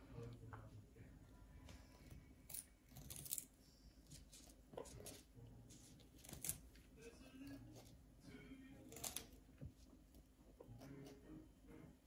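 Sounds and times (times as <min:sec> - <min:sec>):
parrots crunching carrots: 0:00.0 - 0:11.4.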